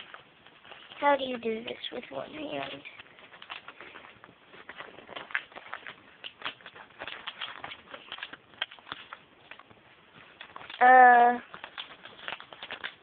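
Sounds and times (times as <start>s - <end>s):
paper rustling while folded: 0.0s - 13.0s.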